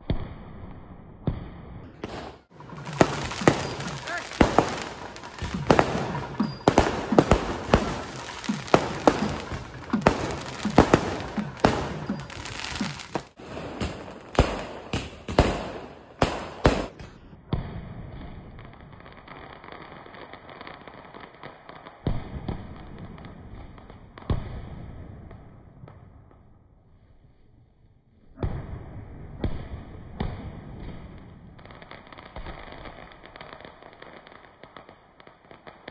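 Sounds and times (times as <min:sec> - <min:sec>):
fireworks bangs and crackling: 0:00.0 - 0:27.0, 0:28.2 - 0:35.9.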